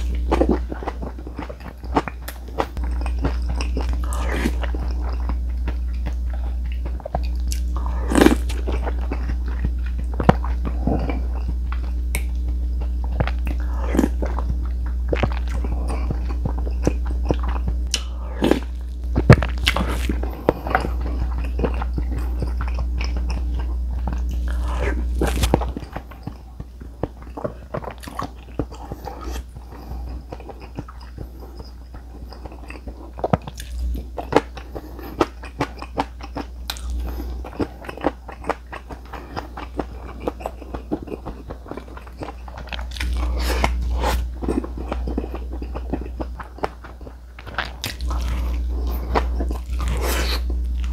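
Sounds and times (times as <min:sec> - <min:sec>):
man chewing and crunching food: 0:00.0 - 0:50.9
steady low hum: 0:00.0 - 0:50.9.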